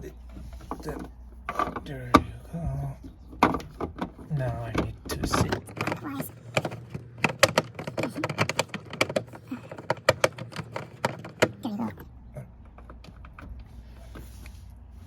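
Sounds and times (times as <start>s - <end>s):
low steady hum: 0.0s - 15.0s
small plastic clicks and knocks: 0.3s - 13.7s.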